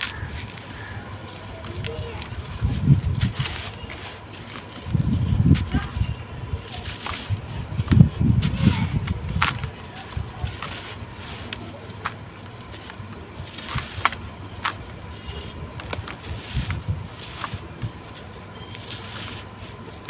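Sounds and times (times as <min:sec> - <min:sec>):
sand-cement blocks crumbling: 0:00.0 - 0:20.0.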